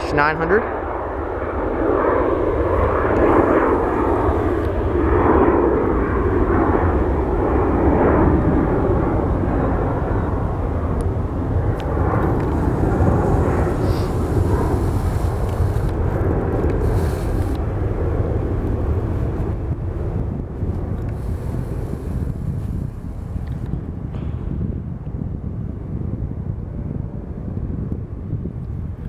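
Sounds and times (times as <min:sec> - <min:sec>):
jet taking off: 0:00.0 - 0:25.0
steady low rumble: 0:00.0 - 0:29.0.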